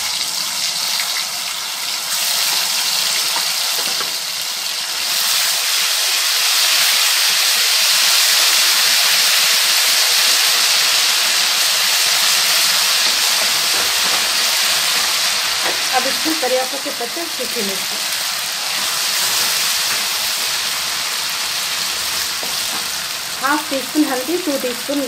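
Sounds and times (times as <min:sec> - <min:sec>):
paste sizzling in hot oil: 0:00.0 - 0:25.0.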